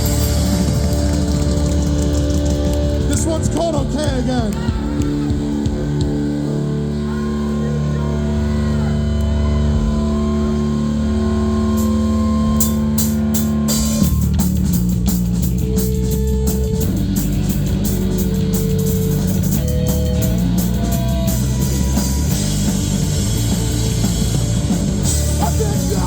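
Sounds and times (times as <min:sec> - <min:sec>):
drum and cymbal hits: 0:00.0 - 0:06.6, 0:11.6 - 0:26.0
live rock band playing: 0:00.0 - 0:26.0.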